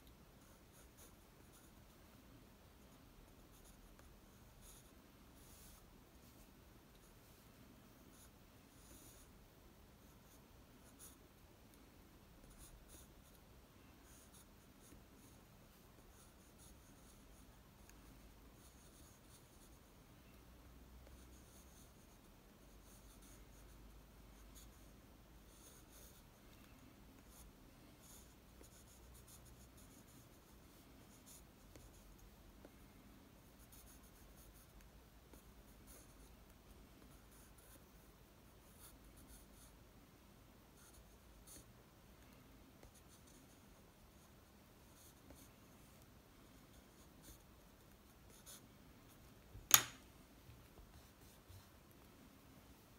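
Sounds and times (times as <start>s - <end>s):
pencil scratching on paper: 0.4s - 1.9s, 3.0s - 7.4s, 8.1s - 9.3s, 10.0s - 11.2s, 12.4s - 19.8s, 21.0s - 32.8s, 33.4s - 39.8s, 40.8s - 50.0s, 50.8s - 52.0s.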